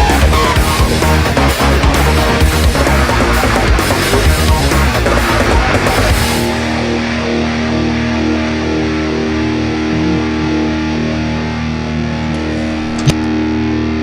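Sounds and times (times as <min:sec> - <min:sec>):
rock music with distorted guitar: 0:00.0 - 0:14.0.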